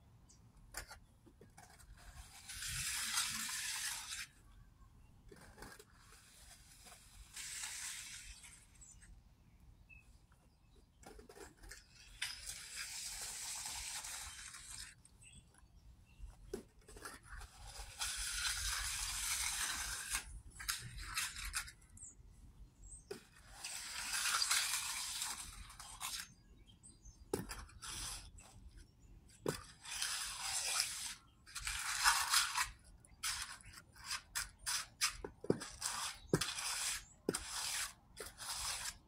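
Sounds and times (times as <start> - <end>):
trowel scraping wet concrete: 0.7 - 4.5, 5.3 - 9.1, 11.0 - 22.1, 22.8 - 28.6, 29.4 - 39.0.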